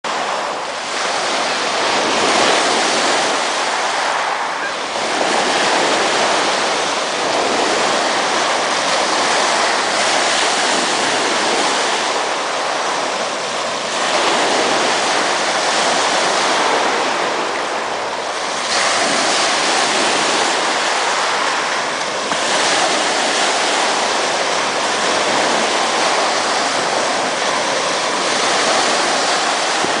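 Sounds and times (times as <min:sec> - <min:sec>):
ocean surf breaking on beach: 0:00.1 - 0:30.0.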